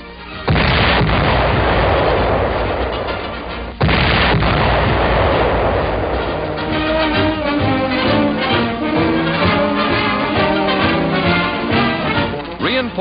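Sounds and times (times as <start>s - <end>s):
heavy rumbling explosions: 0.4s - 12.6s.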